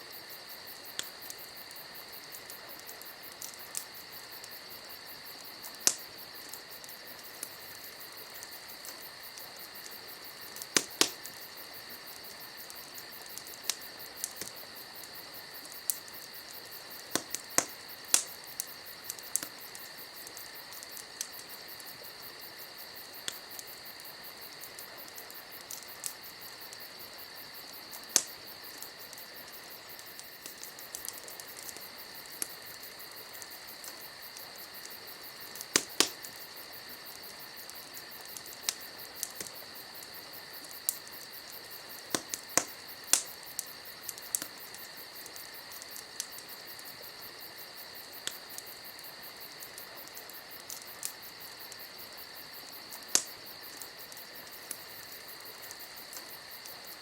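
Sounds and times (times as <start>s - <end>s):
campfire crackling: 0.0s - 57.0s
crickets chirping: 0.0s - 57.0s.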